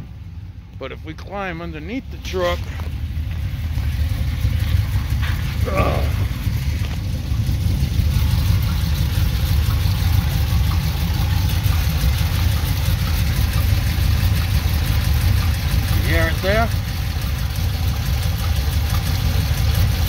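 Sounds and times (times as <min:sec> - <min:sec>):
truck engine idling with rattle: 0:00.0 - 0:20.0.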